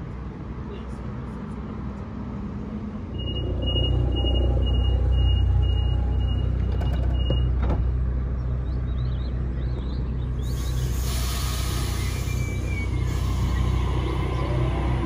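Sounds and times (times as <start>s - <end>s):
electric train low rumble: 0.0s - 15.0s.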